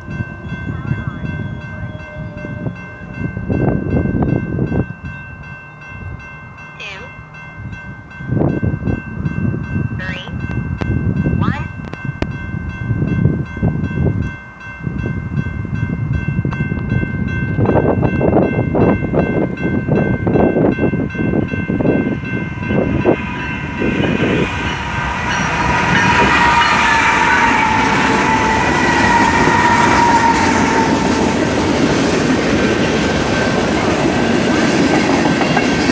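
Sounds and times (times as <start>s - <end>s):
steady high tone: 0.0s - 32.2s
freight train passing: 0.0s - 35.9s.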